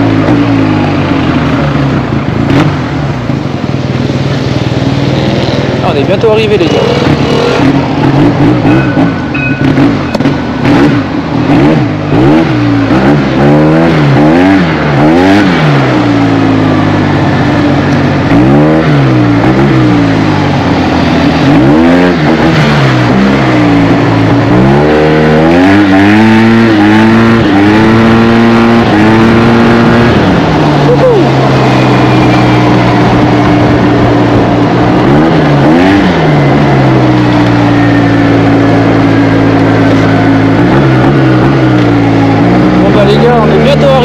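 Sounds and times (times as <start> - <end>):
scooter engine revving: 0.0 - 44.0
wind and road noise: 0.0 - 44.0.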